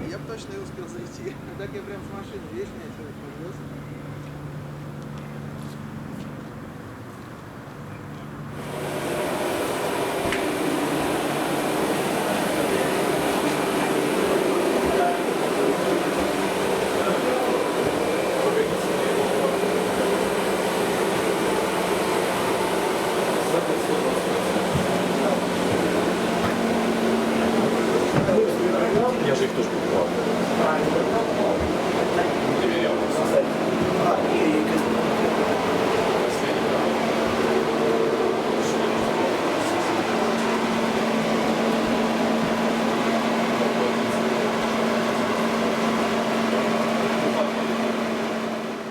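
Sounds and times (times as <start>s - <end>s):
tram running rumble and hiss: 0.0s - 48.9s.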